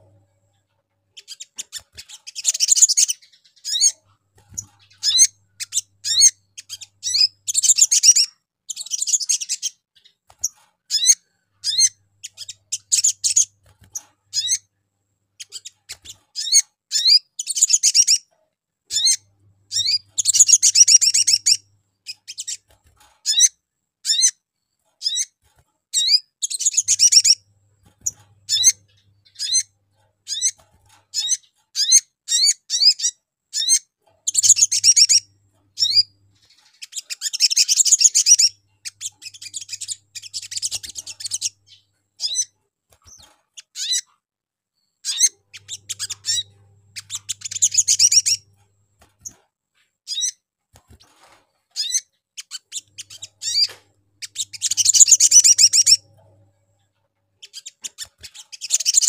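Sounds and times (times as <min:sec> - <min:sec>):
sunbird chirping and twittering: 0:01.1 - 0:14.7, 0:15.4 - 0:18.3, 0:18.9 - 0:44.1, 0:44.8 - 0:49.4, 0:50.1 - 0:56.4, 0:57.4 - 0:59.0.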